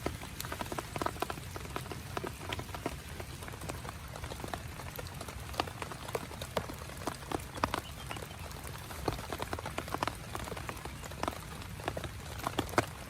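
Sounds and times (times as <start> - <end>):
heavy raindrops ticking on tent: 0.0 - 13.0
rainfall hiss: 0.0 - 13.0.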